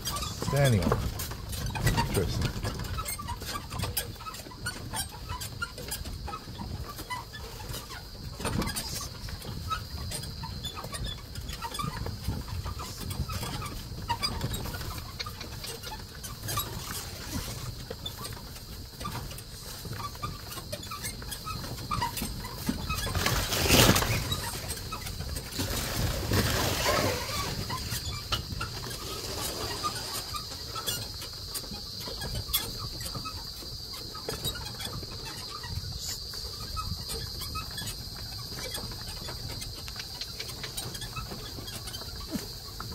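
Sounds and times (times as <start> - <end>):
cart knocks and rattles: 0.0 - 42.9.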